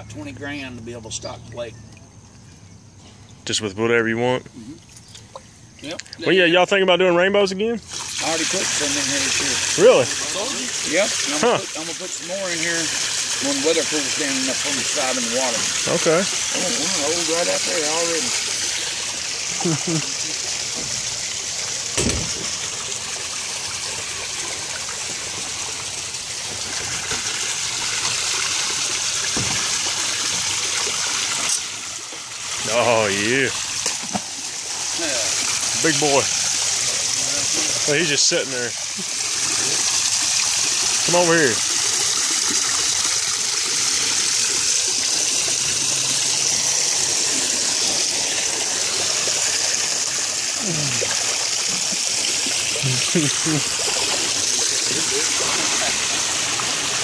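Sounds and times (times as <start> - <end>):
running water: 3.5 - 57.0.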